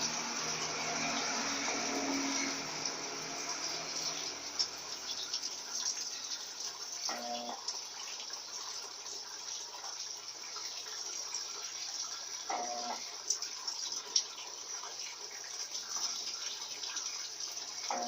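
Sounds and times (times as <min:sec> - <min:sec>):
water pouring into washing machine: 0:00.0 - 0:18.0.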